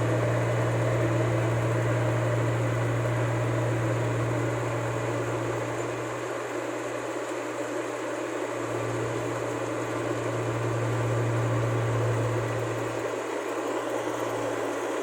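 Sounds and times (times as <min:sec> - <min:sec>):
combine harvester engine humming: 0:00.0 - 0:15.0.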